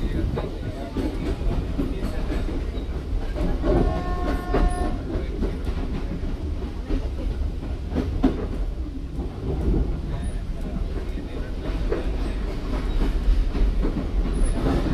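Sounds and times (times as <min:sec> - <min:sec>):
train running rumble: 0:00.0 - 0:14.9
wheels clacking over rail joints: 0:00.0 - 0:14.9.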